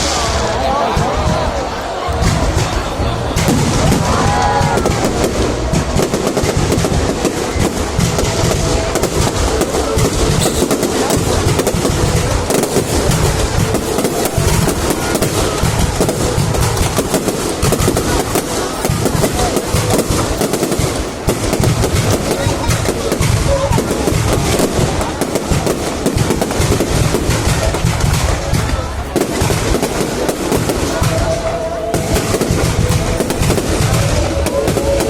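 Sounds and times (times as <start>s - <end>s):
fireworks crackling and bursting: 0.0s - 35.0s.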